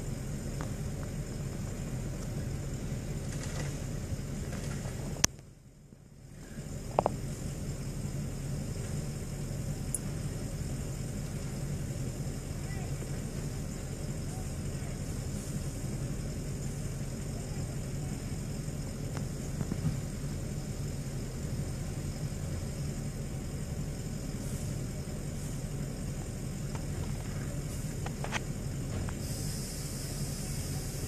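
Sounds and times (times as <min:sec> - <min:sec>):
vehicle engines idling in traffic: 0:00.0 - 0:31.0.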